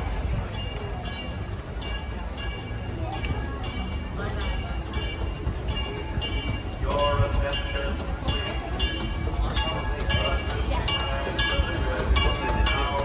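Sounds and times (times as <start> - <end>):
locomotive bell ringing: 0.0 - 13.0
train rumble: 0.0 - 13.0.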